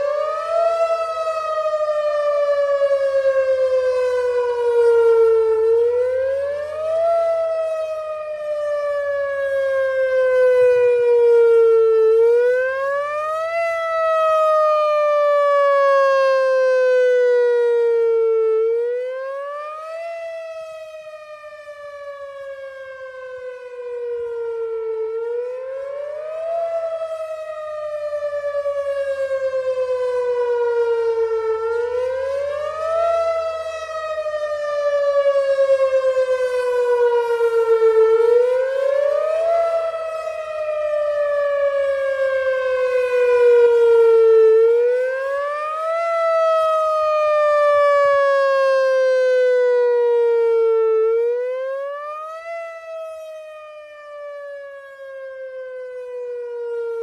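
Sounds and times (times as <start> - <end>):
rising and falling warning siren: 0.0 - 57.0.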